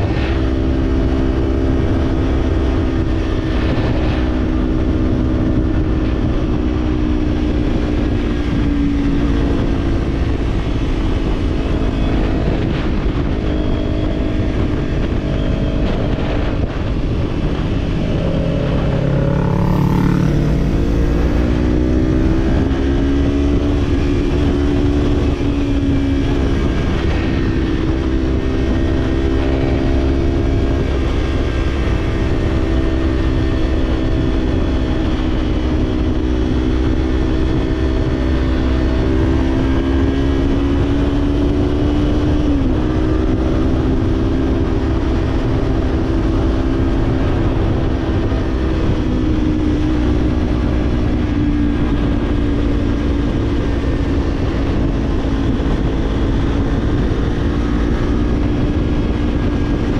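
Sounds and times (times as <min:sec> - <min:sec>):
another engine: 0:00.0 - 0:59.9
motorcycle engine cruising: 0:00.0 - 0:59.9
wind rumble on microphone: 0:00.0 - 0:59.9.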